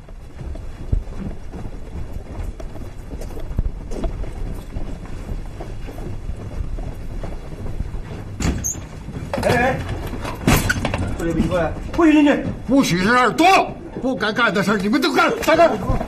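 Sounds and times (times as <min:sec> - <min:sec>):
footsteps of hard-soled shoes: 0:00.0 - 0:16.0.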